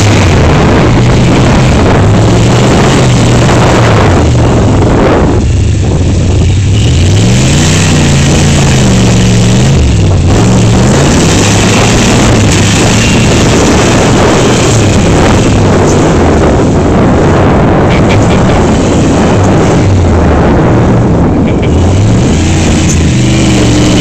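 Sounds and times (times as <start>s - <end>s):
wheels churning through mud: 0.0s - 20.7s, 21.5s - 24.0s
engine revving under load: 0.0s - 24.0s.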